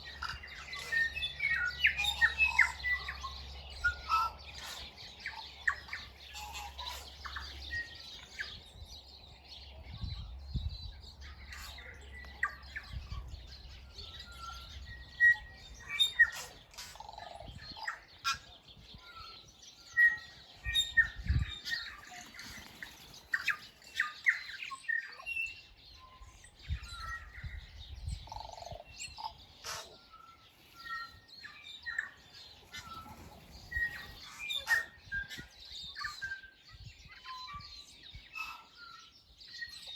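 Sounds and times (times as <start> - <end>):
birds chirping and tweeting: 0.0 - 39.9.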